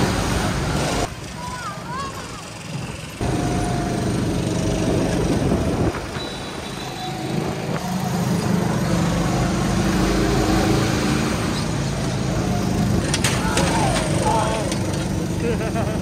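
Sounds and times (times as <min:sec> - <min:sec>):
go-kart engine running: 0:00.5 - 0:16.0.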